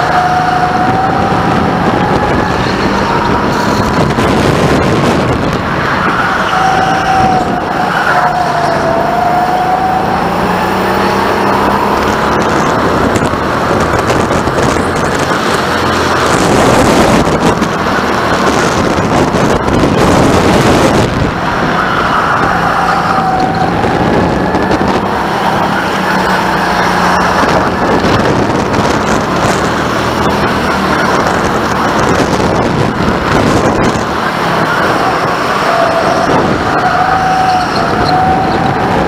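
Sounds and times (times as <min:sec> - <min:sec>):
go-kart motor revving: 0:00.0 - 0:39.0
steady rushing noise: 0:00.0 - 0:39.0.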